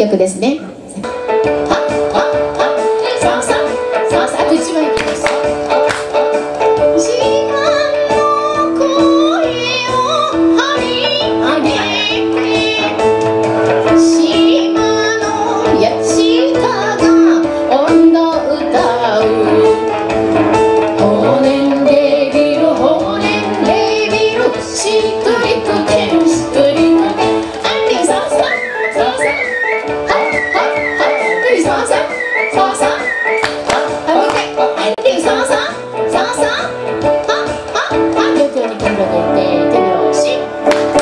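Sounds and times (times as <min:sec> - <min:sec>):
woman singing: 0:01.5 - 0:06.3, 0:06.9 - 0:13.0, 0:13.9 - 0:20.0, 0:20.9 - 0:41.0.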